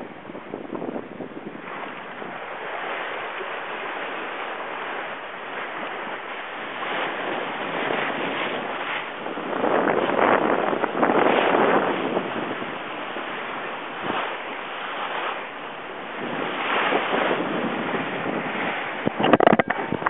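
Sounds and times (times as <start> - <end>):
sea water rushing along hull: 0.0 - 20.0
wind buffeting microphone: 0.0 - 20.0.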